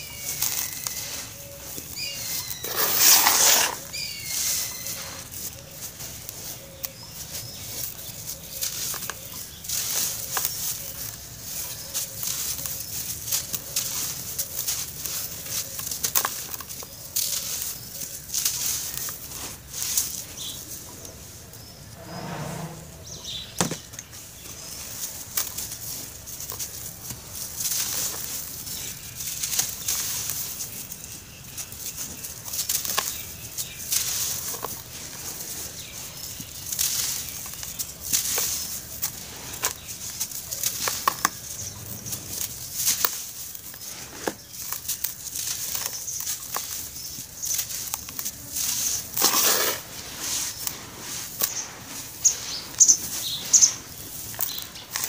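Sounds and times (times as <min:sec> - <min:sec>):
dry powder crunching and trickling: 0:00.0 - 0:55.0.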